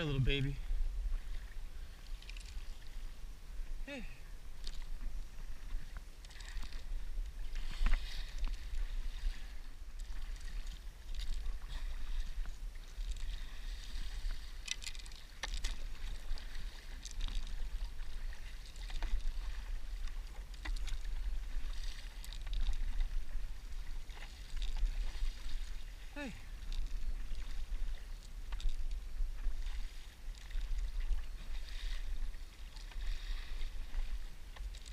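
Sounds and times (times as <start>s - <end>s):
paddle strokes splashing water: 0.0s - 34.9s
water rippling along board: 0.0s - 34.9s.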